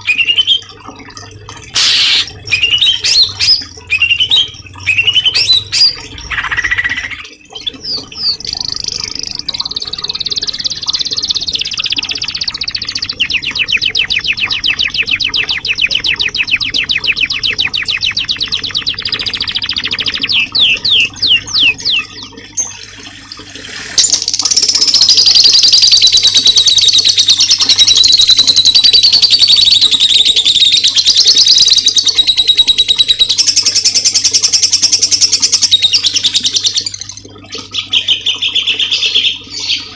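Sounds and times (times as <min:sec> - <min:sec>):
songbird singing: 0:01.8 - 0:37.2.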